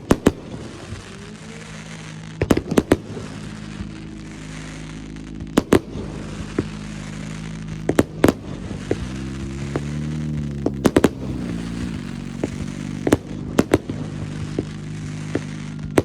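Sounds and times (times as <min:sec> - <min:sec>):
fireworks shells booming: 0:00.0 - 0:16.0
low drone: 0:00.0 - 0:16.0.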